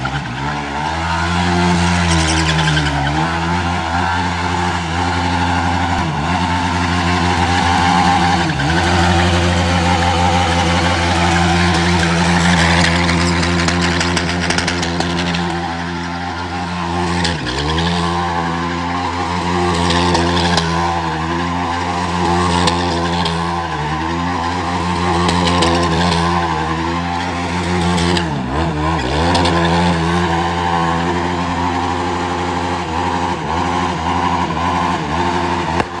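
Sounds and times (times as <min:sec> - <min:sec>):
quad engine on rev limiter: 0:00.0 - 0:36.0.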